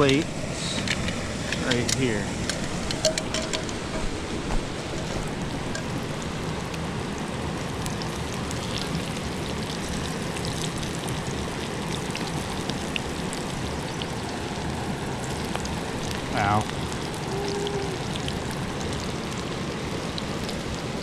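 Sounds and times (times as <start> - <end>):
fish frying in hot oil: 0.0 - 21.0.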